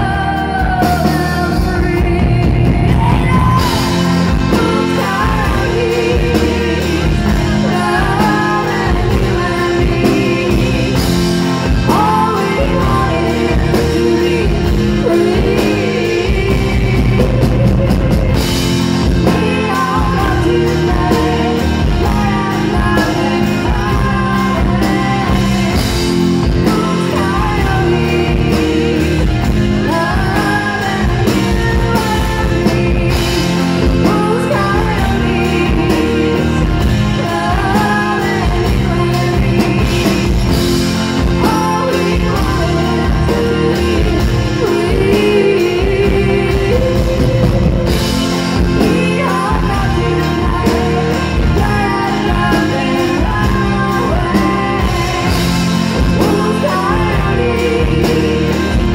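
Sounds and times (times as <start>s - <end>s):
live rock band playing: 0.0s - 58.9s
woman singing: 0.0s - 58.9s.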